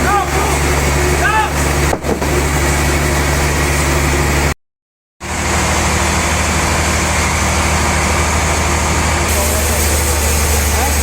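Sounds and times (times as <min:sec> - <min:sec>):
sawmill machinery humming: 0:00.0 - 0:04.6, 0:05.2 - 0:11.0.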